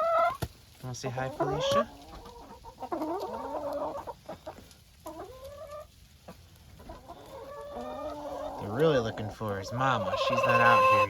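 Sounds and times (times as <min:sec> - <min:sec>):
drawn-out wavering hen calls: 0:00.0 - 0:00.5, 0:01.2 - 0:11.0
hens clucking: 0:00.0 - 0:11.0.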